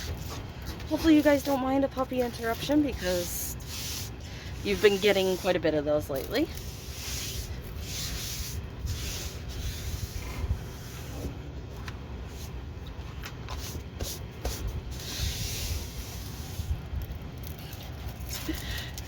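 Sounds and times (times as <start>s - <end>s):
soft rustling and rubbing: 0.0s - 18.5s.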